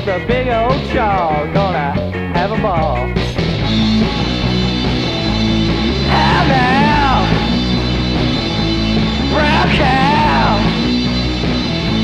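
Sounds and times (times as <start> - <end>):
bass notes: 0.0 - 12.0
rock song: 0.0 - 12.0.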